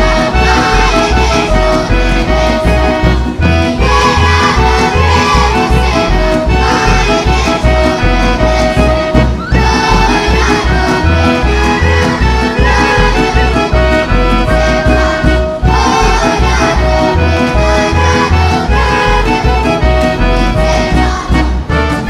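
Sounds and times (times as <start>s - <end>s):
instrumental folk dance music: 0.0s - 22.0s.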